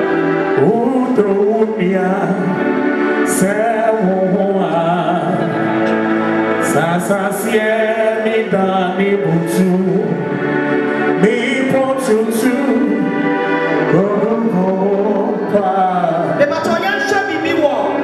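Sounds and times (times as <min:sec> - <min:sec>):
man singing over loudspeakers: 0:00.0 - 0:18.0.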